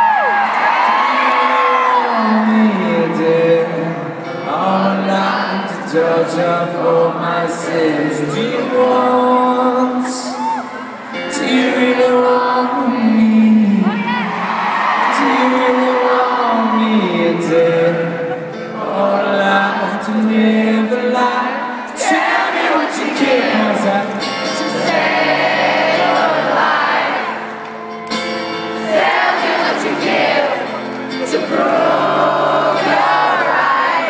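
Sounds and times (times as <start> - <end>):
crowd singing along: 0.0 - 34.0
live rock song over pa: 0.0 - 34.0.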